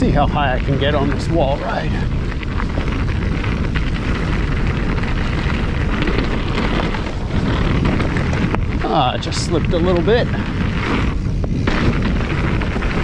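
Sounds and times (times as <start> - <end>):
bike rattles and clicks: 0.0 - 13.0
bike tyres rolling on ground: 0.0 - 13.0
wind on microphone: 0.0 - 13.0.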